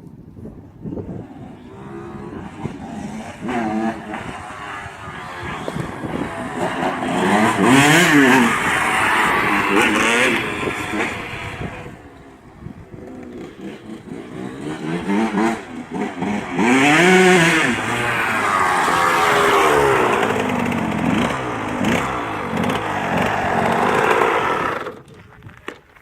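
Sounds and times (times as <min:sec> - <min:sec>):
motocross bike engine revving: 0:00.8 - 0:25.1.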